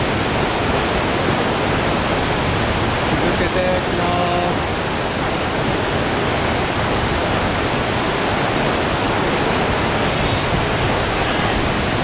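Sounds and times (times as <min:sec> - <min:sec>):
whitewater rushing through rapids: 0:00.0 - 0:12.0.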